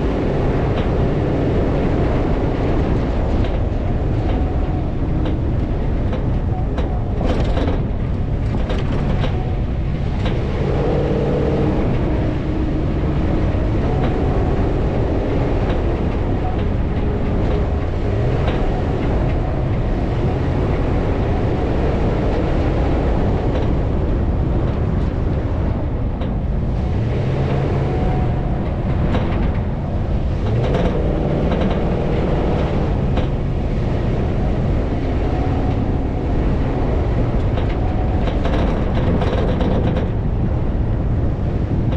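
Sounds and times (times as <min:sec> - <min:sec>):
knocks and rattles: 0:00.0 - 0:41.9
off-road vehicle engine: 0:00.0 - 0:41.9.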